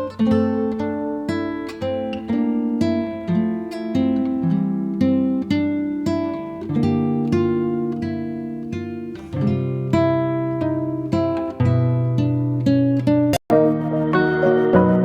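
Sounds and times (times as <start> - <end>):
plucked acoustic guitar: 0.0 - 13.4.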